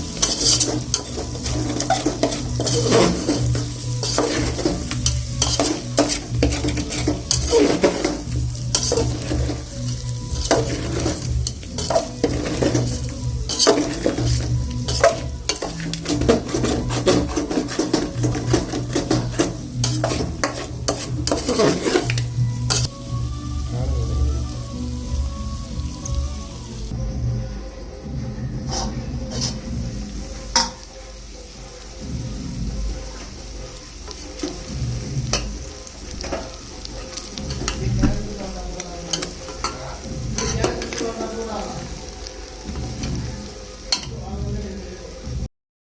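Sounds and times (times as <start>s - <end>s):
spatula scraping a pan: 0.0s - 22.9s, 28.6s - 44.2s
chicken sizzling in a pan: 0.0s - 27.0s, 27.8s - 45.5s
music: 0.0s - 45.5s.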